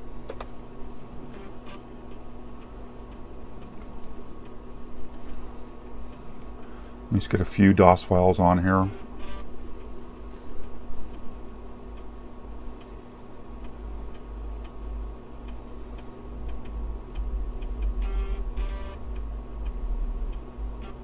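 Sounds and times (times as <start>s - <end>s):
drive head buzzing: 0.0s - 21.0s
floppy drive hum: 0.0s - 21.0s.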